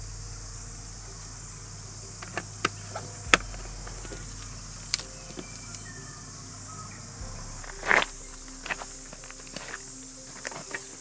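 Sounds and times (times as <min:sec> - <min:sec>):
high buzz of insects: 0:00.0 - 0:11.0.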